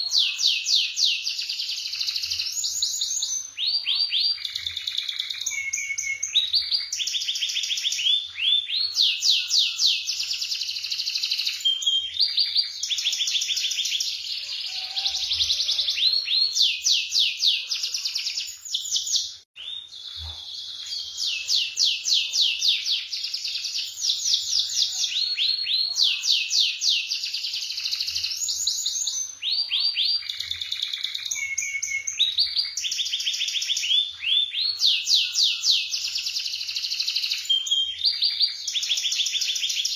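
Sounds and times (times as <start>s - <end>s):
canary singing in rolling trills: 0.0s - 39.9s.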